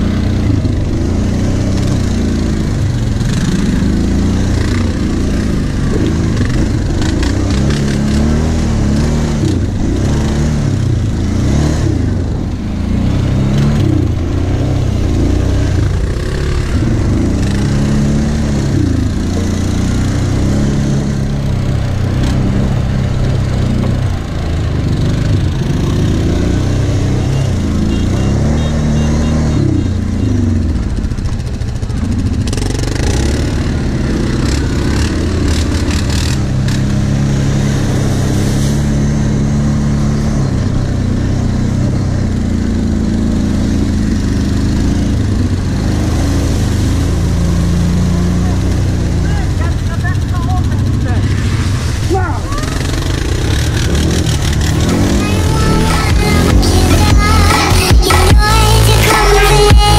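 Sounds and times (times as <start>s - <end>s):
quad engine revving under load: 0.0s - 59.9s.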